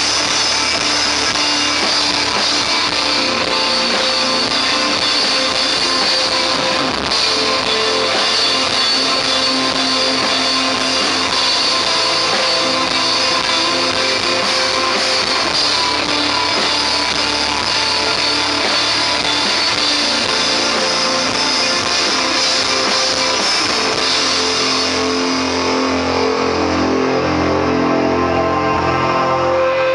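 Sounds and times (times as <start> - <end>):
bass guitar: 0.0 - 29.9
drum kit: 0.0 - 29.9
electric guitar: 0.0 - 29.9.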